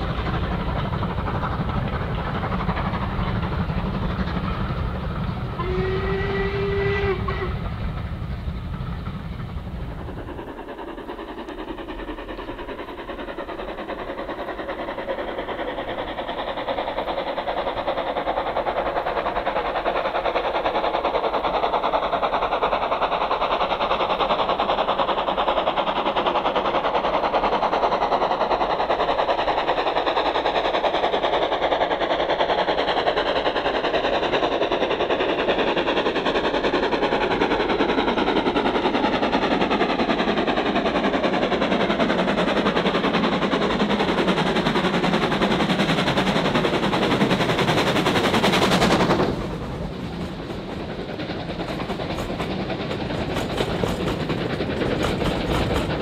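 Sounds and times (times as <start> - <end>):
steam locomotive chuffing: 0.0 - 56.0.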